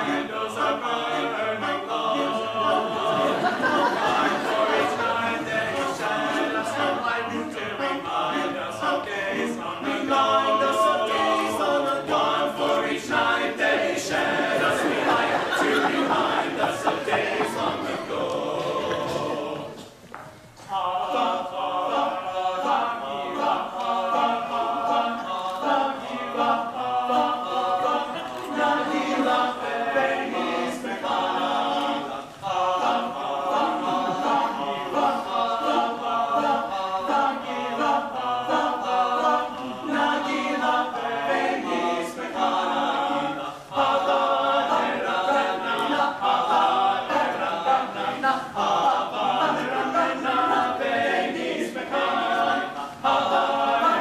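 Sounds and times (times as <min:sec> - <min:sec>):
men's a cappella choir singing: 0:00.0 - 0:20.0, 0:20.6 - 0:54.0.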